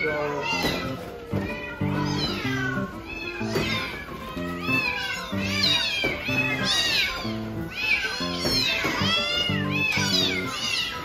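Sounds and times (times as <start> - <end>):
kittens meowing: 0.0 - 11.0.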